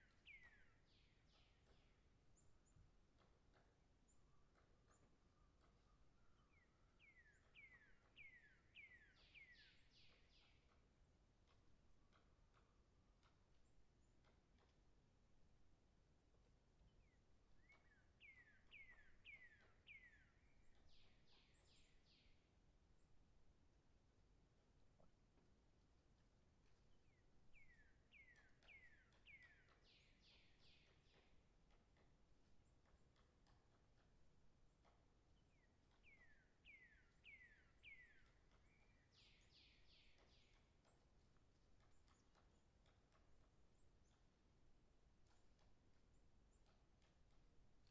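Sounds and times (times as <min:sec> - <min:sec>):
bird singing: 0:00.0 - 0:14.7, 0:16.7 - 0:23.2, 0:26.7 - 0:47.9.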